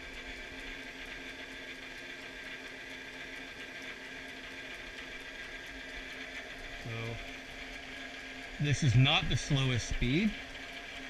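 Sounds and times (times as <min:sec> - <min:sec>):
lathe hum and gear whir: 0:00.0 - 0:11.0.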